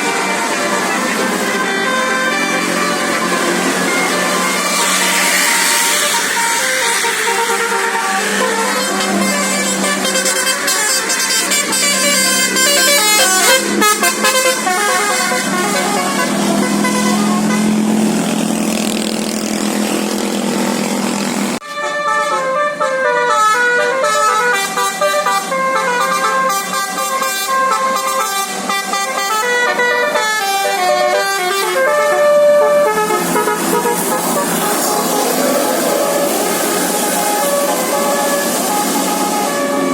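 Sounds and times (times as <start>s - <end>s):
bus horn sounding: 0.0s - 18.9s, 21.5s - 39.9s
multi-tone bus horn tune: 0.0s - 39.9s.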